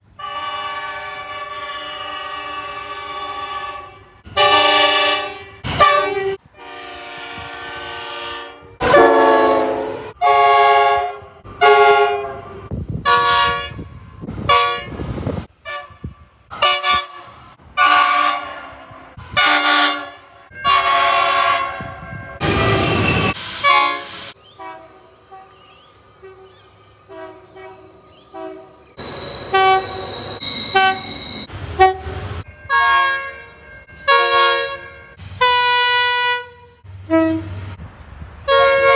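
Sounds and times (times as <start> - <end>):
train horn blasts: 0.2 - 15.0, 15.6 - 37.7, 38.5 - 38.9
high-pitched horn toots: 0.3 - 12.5, 15.6 - 25.6, 27.1 - 37.6, 38.5 - 38.9.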